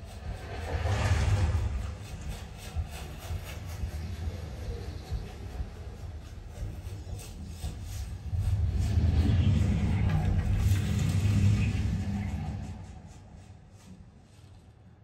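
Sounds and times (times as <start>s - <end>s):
deep low rumble from soundbar: 0.0s - 14.7s.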